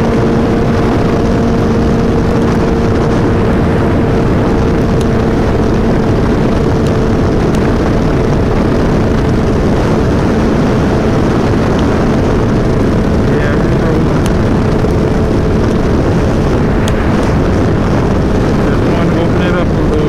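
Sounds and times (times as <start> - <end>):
motorcycle engine humming: 0.0 - 20.0
wind rushing over microphone: 0.0 - 20.0.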